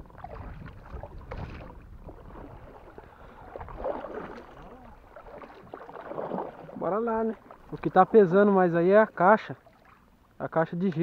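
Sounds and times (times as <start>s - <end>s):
kayak paddle splashing: 0.0s - 11.0s
water lapping along hull: 0.0s - 11.0s.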